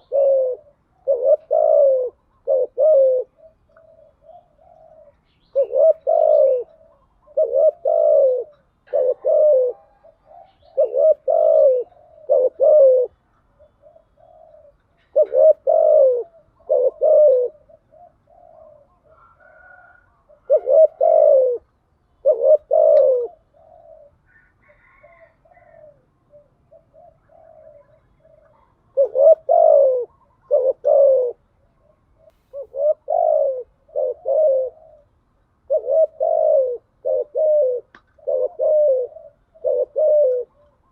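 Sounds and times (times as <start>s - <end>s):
dove cooing: 0.0s - 40.9s
faint bird calls: 0.0s - 40.9s.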